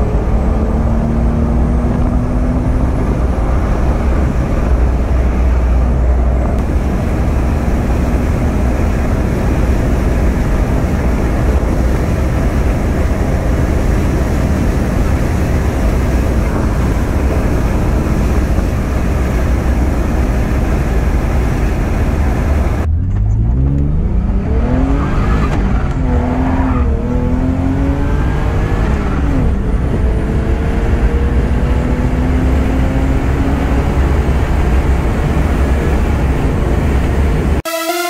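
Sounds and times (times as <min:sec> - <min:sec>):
engine accelerating: 0:00.0 - 0:38.0
road and wind rumble: 0:00.0 - 0:38.0.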